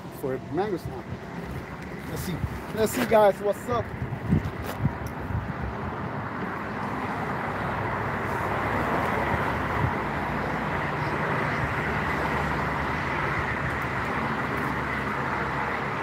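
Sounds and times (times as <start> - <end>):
tyre hiss from passing vehicles: 0.0 - 16.0.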